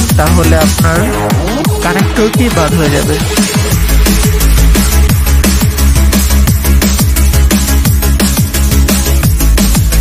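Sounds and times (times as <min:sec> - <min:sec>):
drum and bass electronic music: 0:00.0 - 0:10.0.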